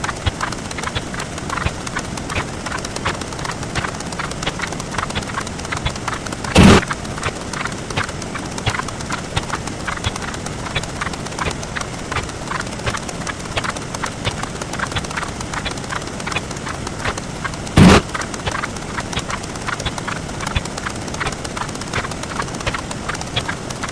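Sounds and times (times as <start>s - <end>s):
rapid short clicks: 0.0s - 23.9s.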